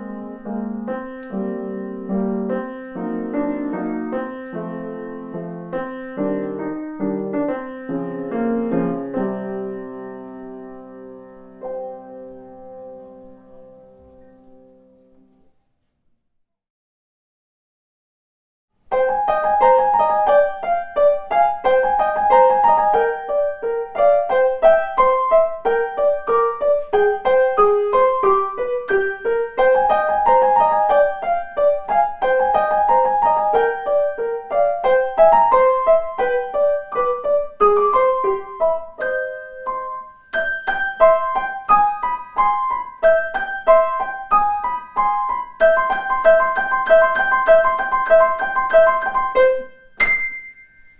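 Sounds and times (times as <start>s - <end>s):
solo piano piece: 0.0s - 15.8s, 18.8s - 50.9s.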